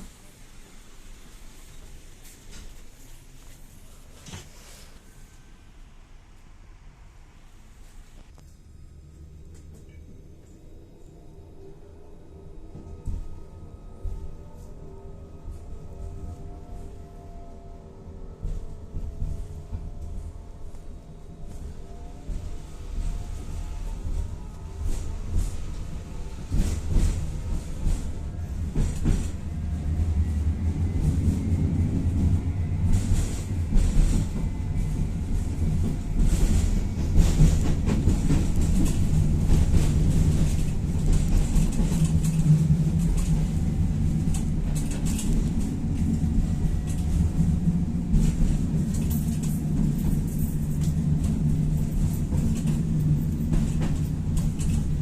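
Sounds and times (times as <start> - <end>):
tram wheels rumbling on rails: 0.0 - 55.0.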